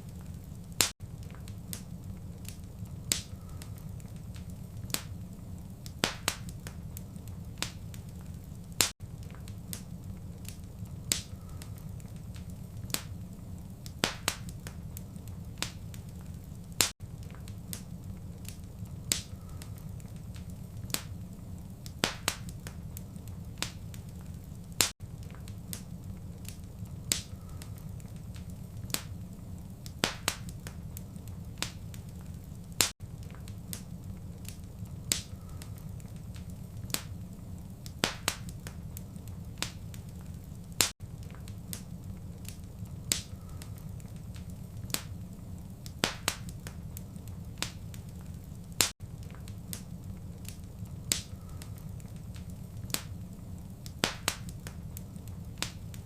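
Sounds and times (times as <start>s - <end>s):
low steady rumble: 0.0s - 56.0s
wood fire crackling and popping: 0.0s - 56.0s.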